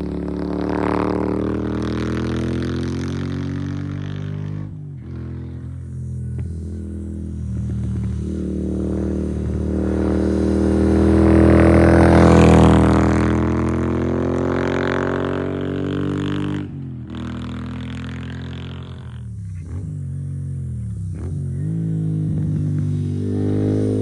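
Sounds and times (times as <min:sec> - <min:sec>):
motorcycle riding past: 0:00.0 - 0:24.0.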